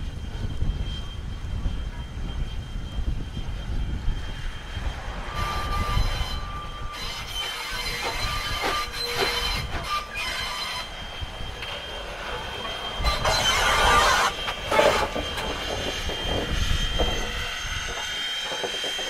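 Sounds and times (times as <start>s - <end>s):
train wheels squealing: 0.0s - 19.0s
wind rumble on microphone: 0.0s - 19.0s.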